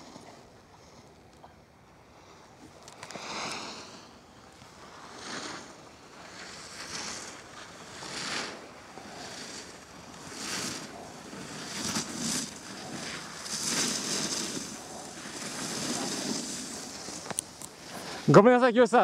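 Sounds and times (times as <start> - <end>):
snowboard scraping snow: 2.2 - 18.5.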